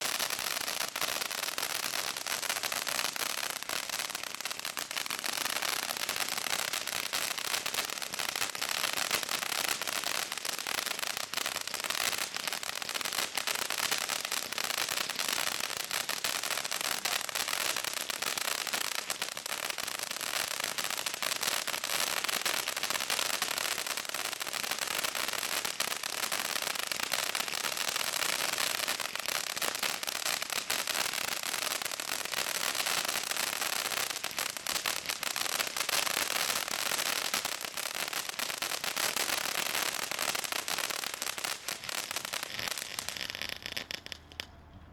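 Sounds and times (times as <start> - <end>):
firework fountain hissing sparks: 0.0 - 44.5.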